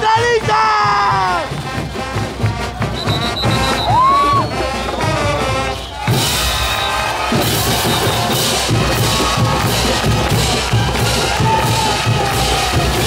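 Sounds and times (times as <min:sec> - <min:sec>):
bass drum and snare beat: 0:00.0 - 0:13.0
parade band music: 0:00.0 - 0:13.0.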